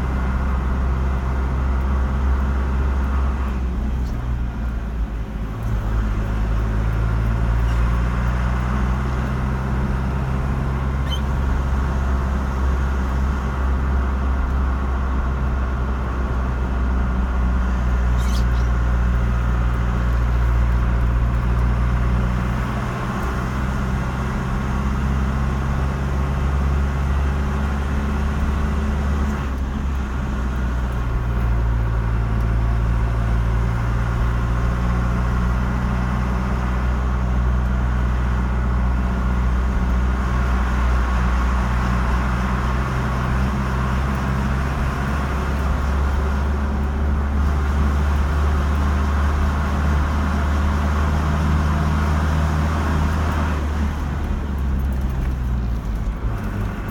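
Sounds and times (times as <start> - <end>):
car engine drone: 0.0 - 56.9
tyre and road noise: 0.0 - 56.9.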